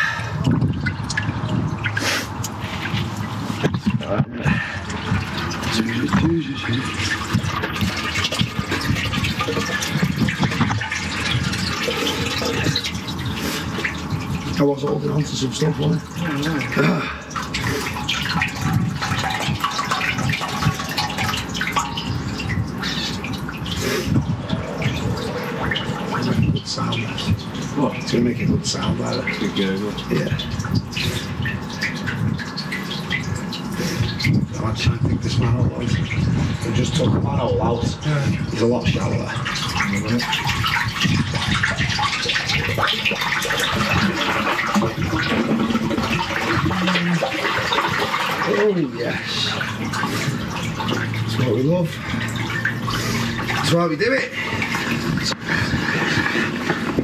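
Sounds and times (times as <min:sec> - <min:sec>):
sewage water gurgling and sloshing: 0:00.0 - 0:57.0.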